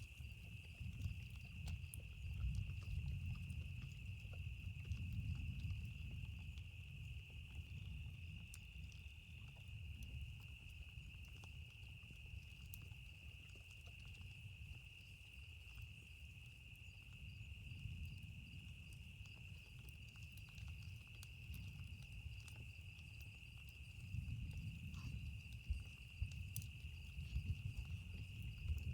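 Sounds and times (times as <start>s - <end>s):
campfire crackles: 0.0s - 28.9s
insect chirring: 0.0s - 28.9s.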